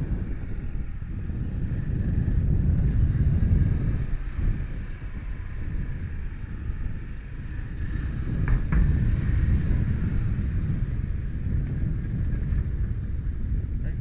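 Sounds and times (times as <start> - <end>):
motorcycle engine rumble: 0.0 - 14.0
wind on microphone: 0.0 - 14.0.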